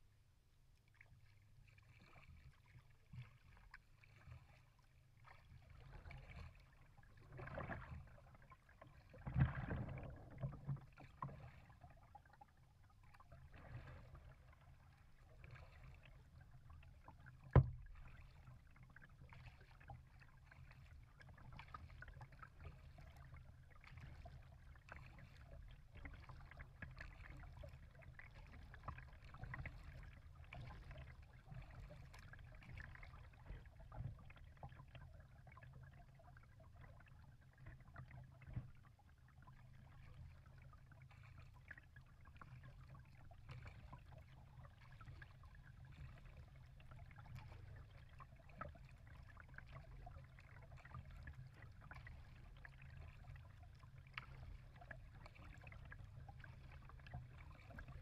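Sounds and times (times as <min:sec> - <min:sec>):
water lapping against kayak hull: 0:00.0 - 0:58.0.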